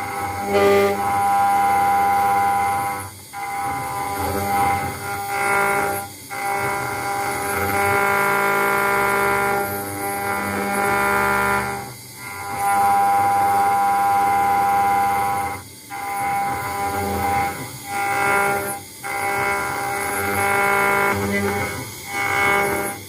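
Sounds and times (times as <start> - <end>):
engraving machine motor whine: 0.0 - 23.0.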